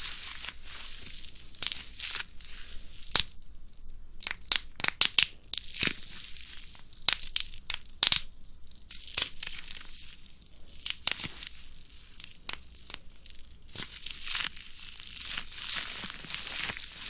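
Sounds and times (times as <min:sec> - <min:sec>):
plastic sheet crinkling: 0:00.0 - 0:04.4, 0:05.1 - 0:17.0
bubble wrap popping: 0:00.0 - 0:17.0.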